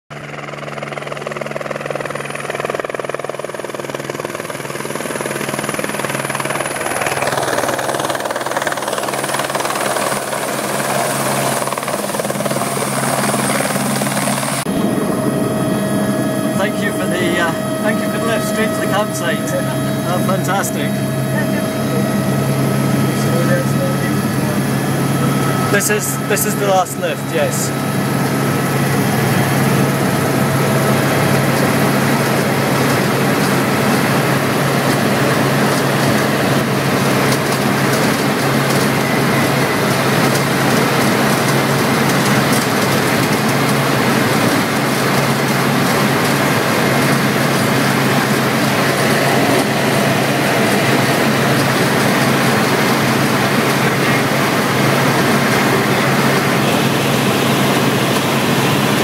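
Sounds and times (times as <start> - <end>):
helicopter engine and rotor noise: 0.1 - 59.0.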